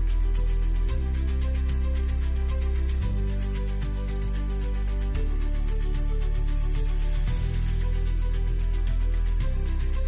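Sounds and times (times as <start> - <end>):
background music with sustained chords: 0.0 - 10.0.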